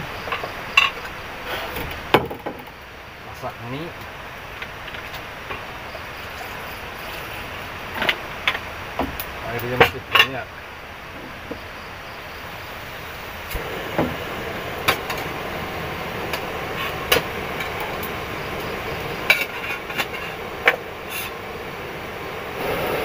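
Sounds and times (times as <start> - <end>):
gas stove burner hissing: 0.0 - 23.0.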